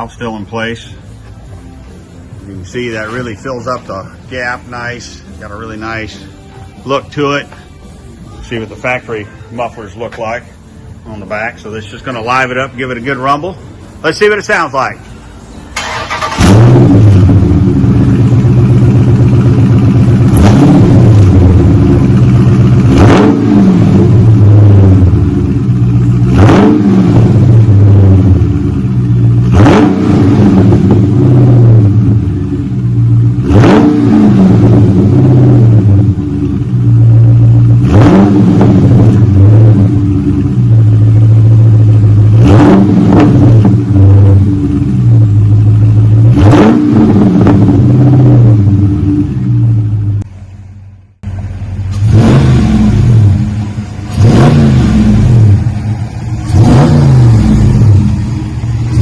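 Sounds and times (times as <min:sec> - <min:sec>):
car exhaust idling and revving: 0:00.0 - 0:59.0.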